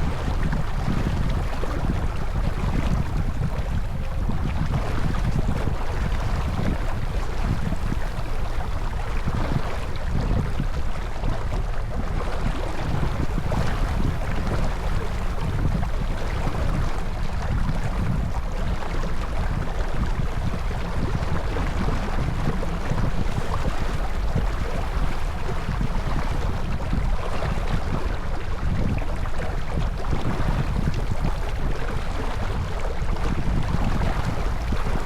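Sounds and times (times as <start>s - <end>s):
low rumble: 0.0s - 35.0s
water rushing along hull: 0.0s - 35.0s
wind buffeting microphone: 0.0s - 35.0s.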